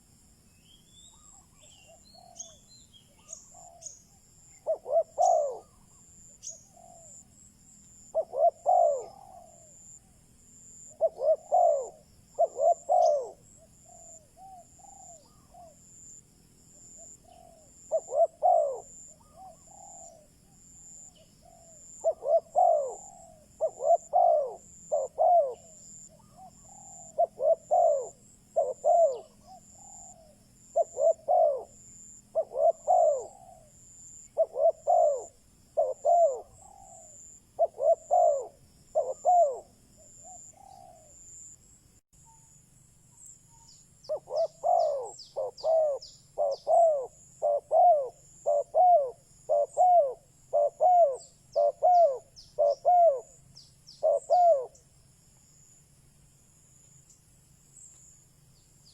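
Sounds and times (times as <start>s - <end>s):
dove cooing: 1.1s - 16.2s, 16.8s - 41.5s, 44.0s - 54.8s.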